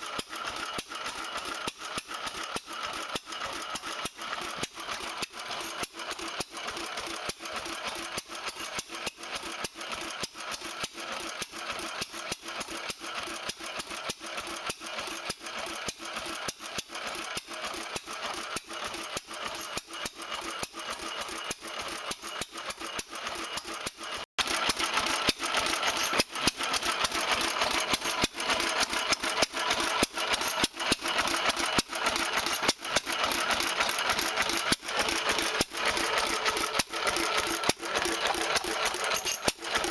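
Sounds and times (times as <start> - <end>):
stationary gas engine running: 0.0 - 39.9
mechanical rattle: 0.1 - 39.9.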